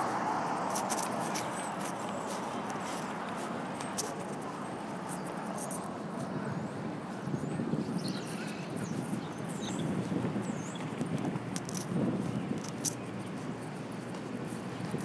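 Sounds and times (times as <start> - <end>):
steady rush of street noise: 0.0 - 15.0.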